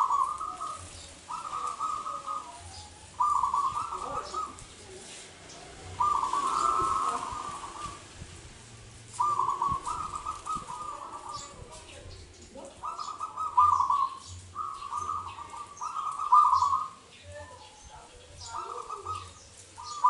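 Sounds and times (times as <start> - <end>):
dove cooing: 0.0 - 8.3, 9.0 - 20.0.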